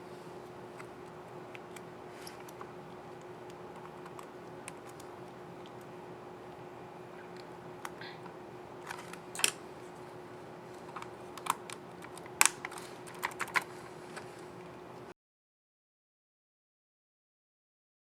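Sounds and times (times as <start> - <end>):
faint steady hum: 0.0 - 15.1.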